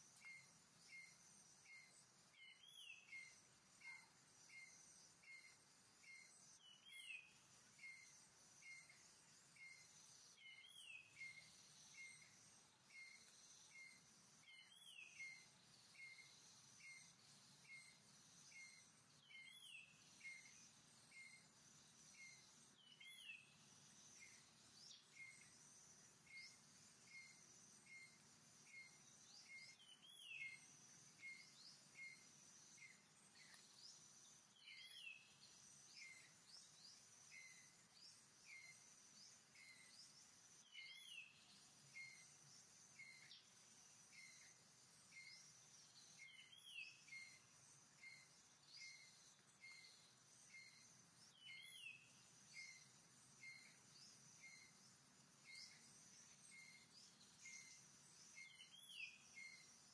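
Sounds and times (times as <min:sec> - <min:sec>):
high insect drone: 0:00.1 - 0:59.9.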